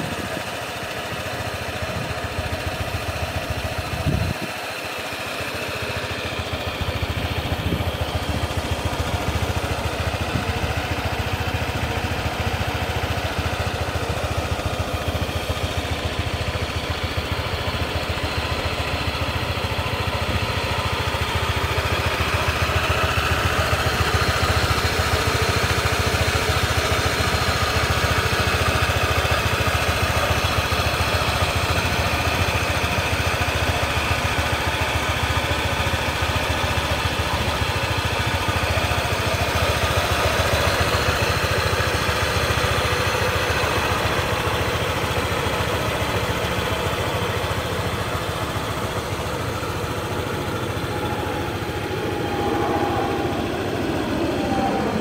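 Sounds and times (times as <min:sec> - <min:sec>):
scooter engine idling: 0:00.0 - 0:55.0.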